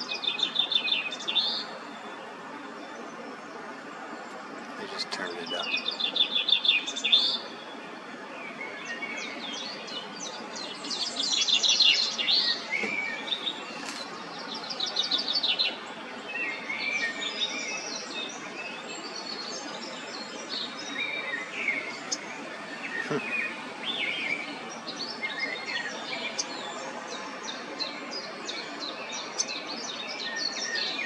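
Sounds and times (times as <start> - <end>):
songbirds chirping and trilling: 0.0 - 31.0.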